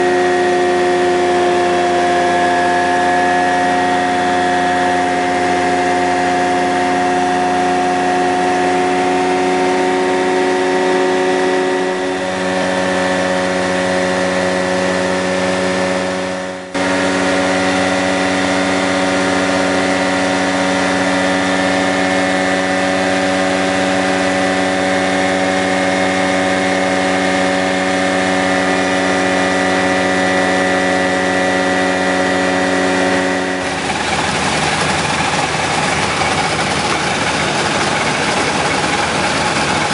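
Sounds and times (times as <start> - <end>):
light aircraft engine and propeller droning: 0.0 - 39.9.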